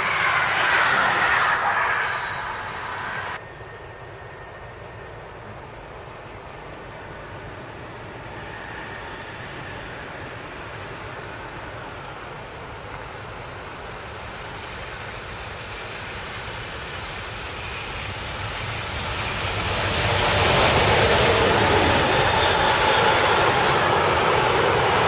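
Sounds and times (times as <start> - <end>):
train running noise: 0.0 - 25.0.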